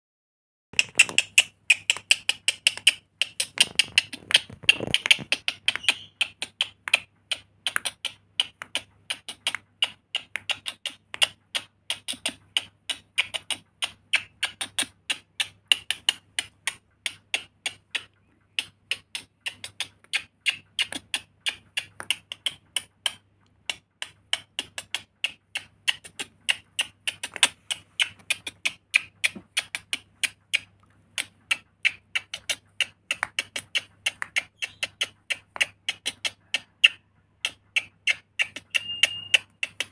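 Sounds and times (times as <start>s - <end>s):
parrot sharp clicks: 0.8s - 39.9s.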